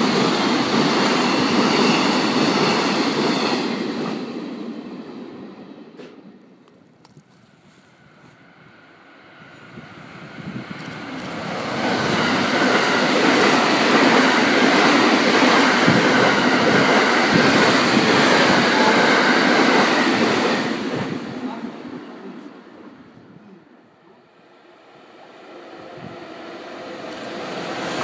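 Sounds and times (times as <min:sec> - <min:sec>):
electric train passing at speed: 0:00.0 - 0:28.0.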